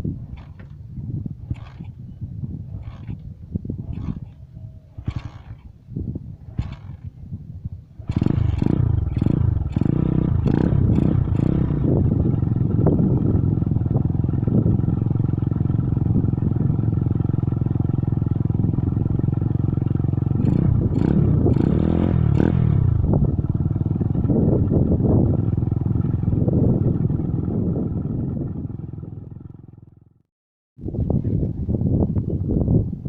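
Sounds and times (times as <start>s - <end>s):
strong wind on microphone: 0.0s - 30.0s, 30.8s - 33.0s.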